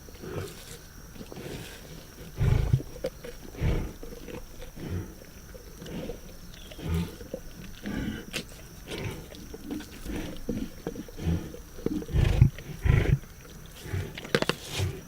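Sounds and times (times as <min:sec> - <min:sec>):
lions growling: 0:00.1 - 0:15.0.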